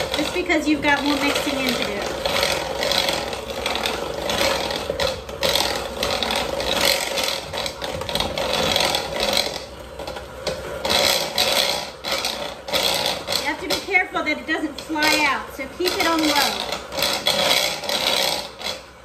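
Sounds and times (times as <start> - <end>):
electric hand mixer churning crumbs: 0.0 - 19.0.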